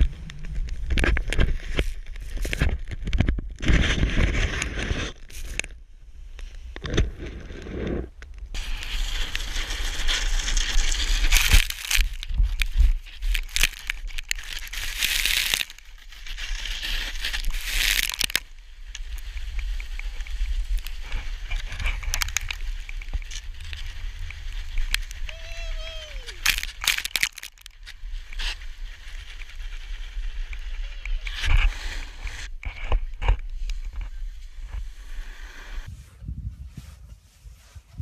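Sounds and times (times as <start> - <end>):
snow scraping and spraying: 7.4 - 38.0.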